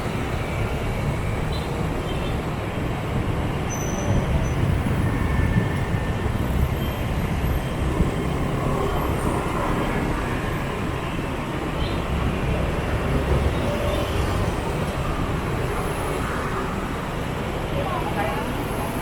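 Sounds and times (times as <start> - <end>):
motorbike traffic rumble: 0.0 - 19.0
road noise: 0.0 - 19.0.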